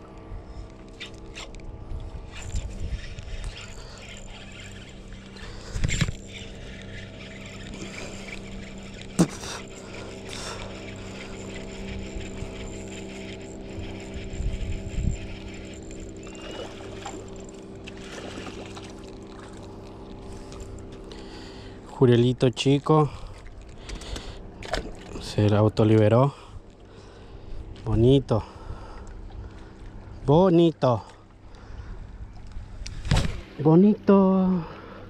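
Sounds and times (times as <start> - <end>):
engine drone: 0.0 - 35.0.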